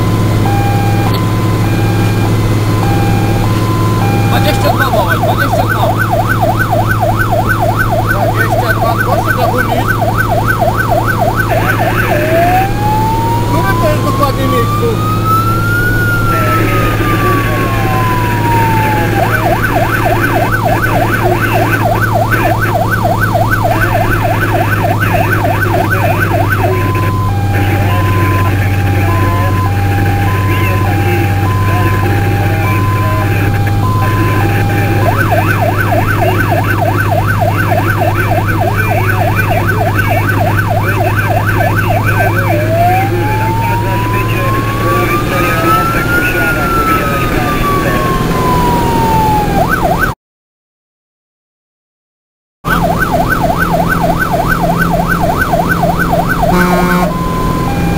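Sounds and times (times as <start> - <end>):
fire truck siren: 0.0 - 50.2, 52.6 - 57.9
truck engine drone: 0.0 - 50.2, 52.7 - 57.9.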